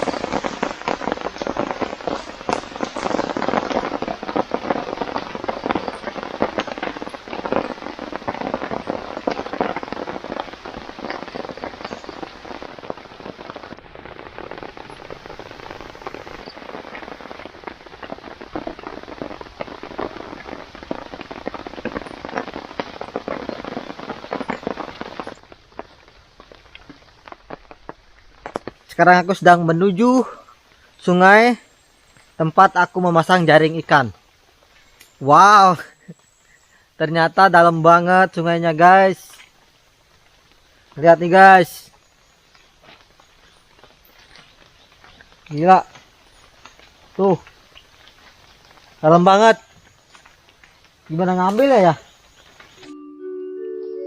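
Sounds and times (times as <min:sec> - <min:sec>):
campfire crackling and popping: 0:00.0 - 0:53.0
rain falling: 0:00.0 - 0:54.0.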